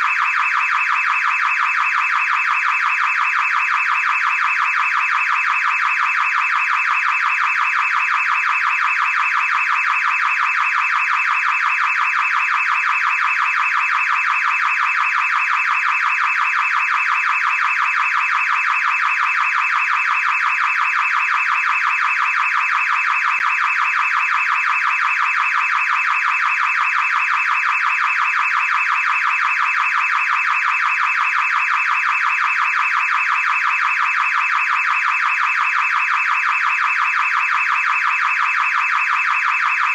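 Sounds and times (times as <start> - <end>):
car alarm siren warbling: 0.0 - 39.9.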